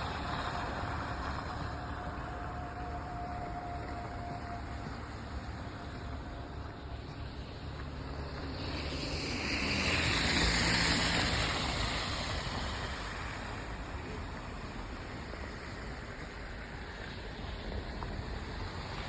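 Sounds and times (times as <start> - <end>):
car driving past on snow: 0.0 - 19.0.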